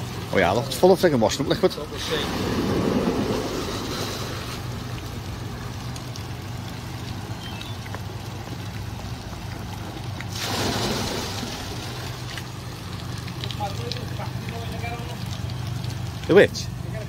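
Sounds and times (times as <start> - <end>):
bucket pouring water gush: 0.0 - 17.0
steady low hum: 0.0 - 17.0
water trickling and splashing: 0.0 - 17.0.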